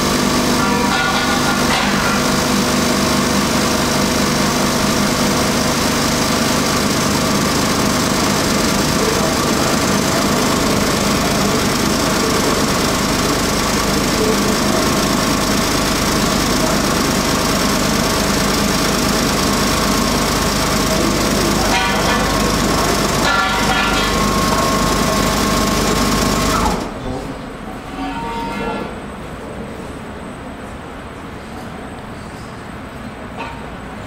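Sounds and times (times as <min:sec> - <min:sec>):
tramway machinery humming: 0:00.0 - 0:34.0.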